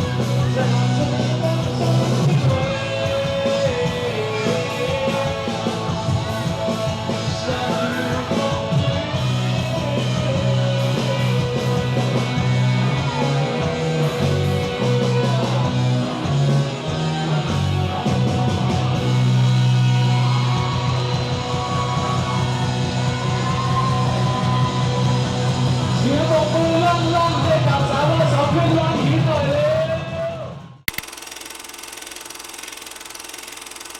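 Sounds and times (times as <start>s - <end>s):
live rock band playing: 0.0s - 29.2s
bass line: 0.0s - 30.1s.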